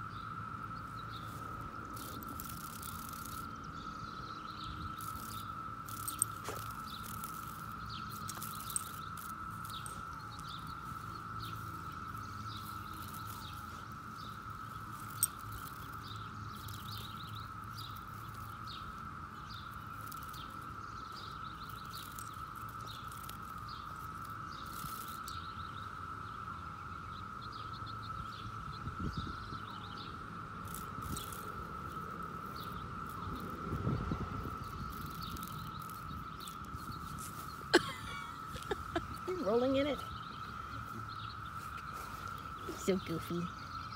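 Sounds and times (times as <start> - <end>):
birds chirping: 0.0 - 43.9
cicadas droning: 0.0 - 43.9.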